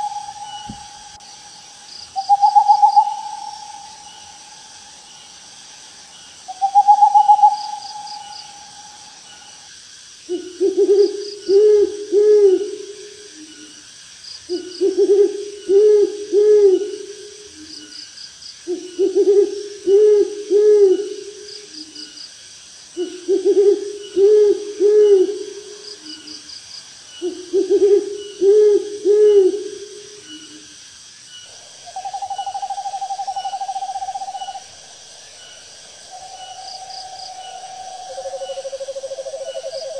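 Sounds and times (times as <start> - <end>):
owl hooting: 0.0 - 5.5, 6.5 - 9.7, 10.3 - 13.7, 14.5 - 17.8, 18.7 - 21.2, 23.0 - 26.2, 27.2 - 29.7, 31.5 - 39.9
insects chirping faintly: 0.0 - 39.9.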